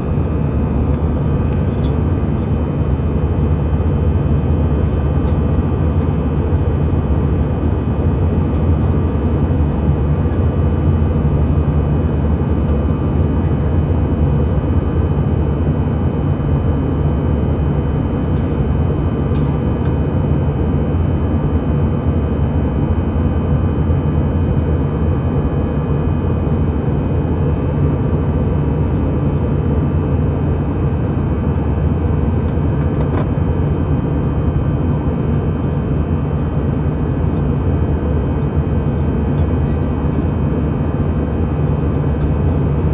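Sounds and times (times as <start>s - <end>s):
jet engine and airflow drone: 0.0s - 42.9s.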